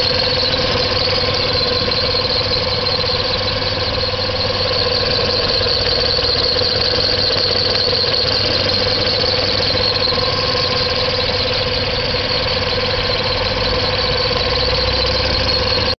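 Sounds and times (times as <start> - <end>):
car engine running: 0.0 - 16.0
high squeal: 0.0 - 16.0.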